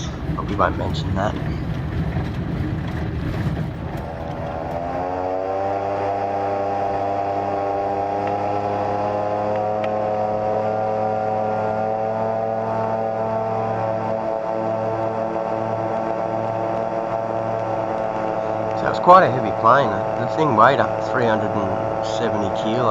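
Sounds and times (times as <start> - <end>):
aircraft engine and propeller: 0.0 - 22.9
rough rushing noise: 0.0 - 22.9.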